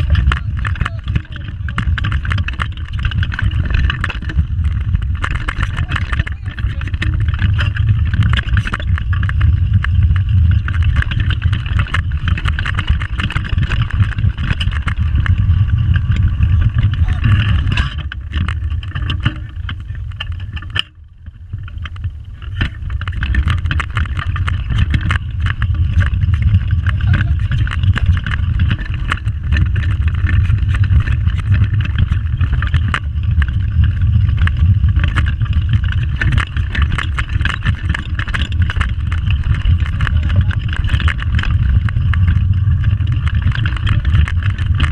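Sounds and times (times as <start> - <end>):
go-kart rolling rumble: 0.0 - 44.9
kart rattling: 0.0 - 44.9
wind buffeting microphone: 0.0 - 44.9.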